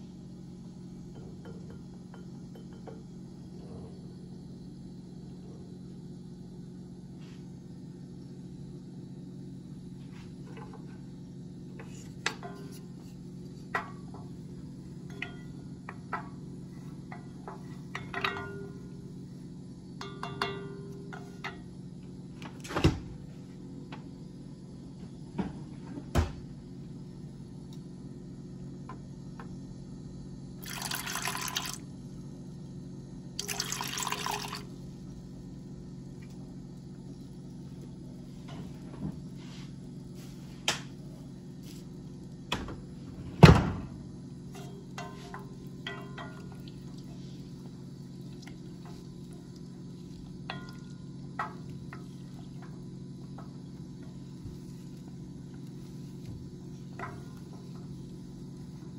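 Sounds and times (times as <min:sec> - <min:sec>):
gas stove hum: 0:00.0 - 0:58.9.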